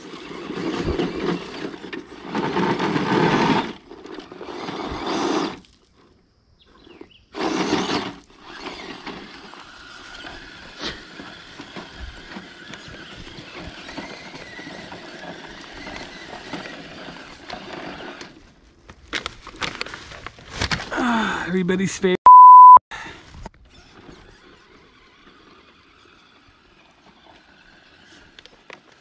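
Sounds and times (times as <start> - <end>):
toy truck motor whining: 0.0 - 6.1, 6.7 - 18.4, 23.6 - 29.0.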